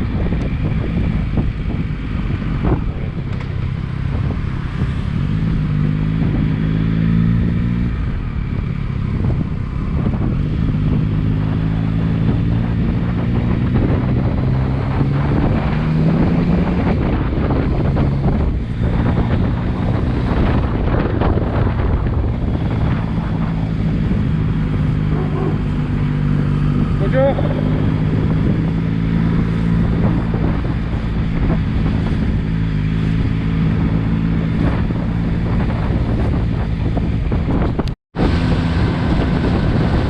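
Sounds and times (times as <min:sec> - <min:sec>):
motorcycle engine running: 0:00.0 - 0:40.0
wind noise on microphone: 0:00.0 - 0:40.0.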